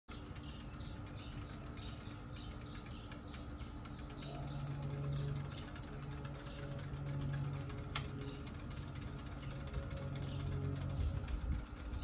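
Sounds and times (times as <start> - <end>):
low hum: 0.1 - 12.0
small birds chirping: 0.1 - 12.0.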